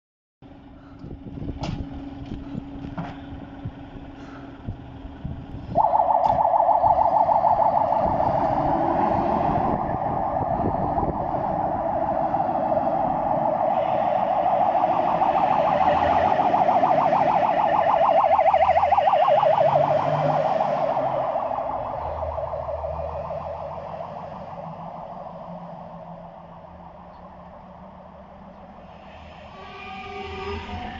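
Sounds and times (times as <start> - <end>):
diesel engine rumbling: 0.4 - 30.9
fire engine siren warbling: 2.4 - 30.9.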